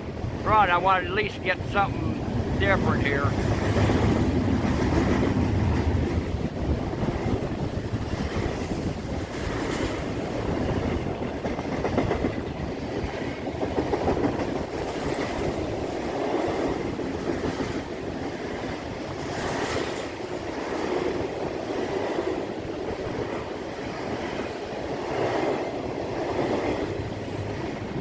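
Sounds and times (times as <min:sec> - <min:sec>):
freight train cars rolling past: 0:00.0 - 0:28.0.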